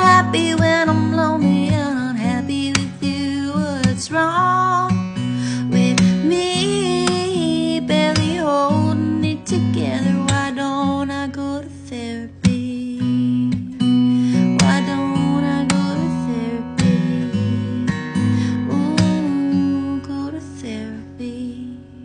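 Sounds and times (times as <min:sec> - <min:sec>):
strummed acoustic guitar: 0:00.0 - 0:22.0
woman singing: 0:00.0 - 0:22.0.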